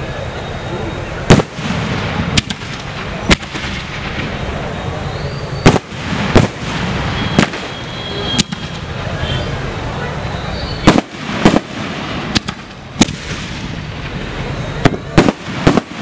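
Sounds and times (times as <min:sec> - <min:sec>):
firework crackle and rumble: 0:00.0 - 0:16.0
firework bangs: 0:01.2 - 0:09.8, 0:10.6 - 0:16.0.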